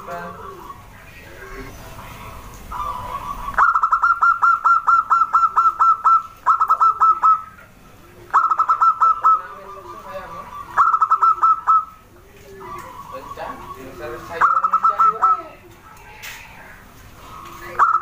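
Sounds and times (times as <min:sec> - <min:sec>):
dove singing staccato notes: 0:02.2 - 0:16.5, 0:17.1 - 0:18.0.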